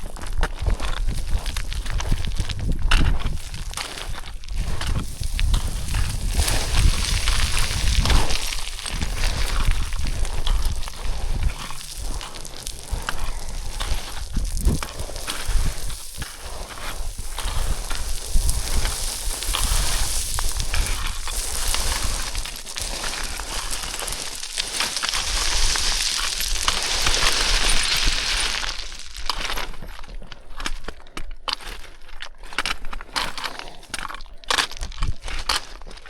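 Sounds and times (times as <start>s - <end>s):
boots crunching on scree: 0.0s - 36.0s
stones grinding and clinking: 0.0s - 36.0s.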